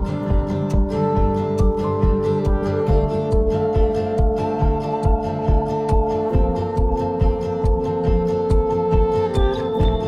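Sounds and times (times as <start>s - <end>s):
low thumping beat: 0.0s - 10.0s
sustained music notes: 0.0s - 10.0s.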